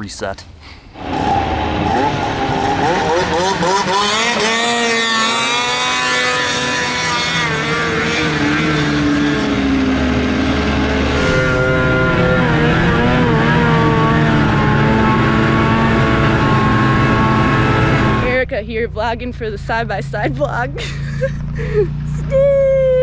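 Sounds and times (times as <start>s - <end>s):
snowmobile engine running hard: 1.1s - 23.0s.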